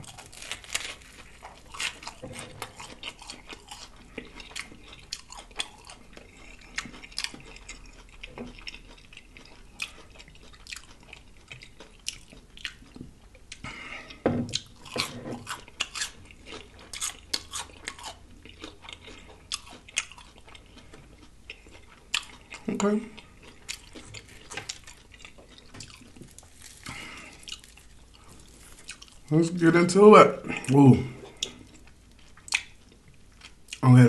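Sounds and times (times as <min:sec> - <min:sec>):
crunchy chewing: 0:00.0 - 0:29.6, 0:30.5 - 0:33.8.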